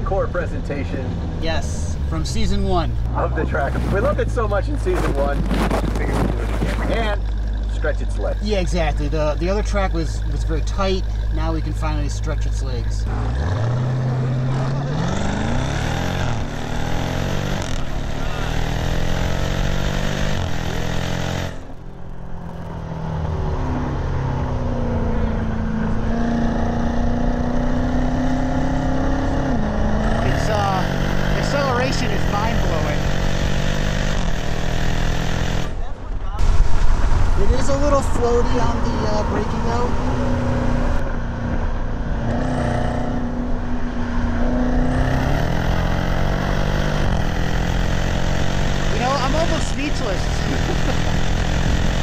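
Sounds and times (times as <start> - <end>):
car engine accelerating hard: 0.0 - 52.0.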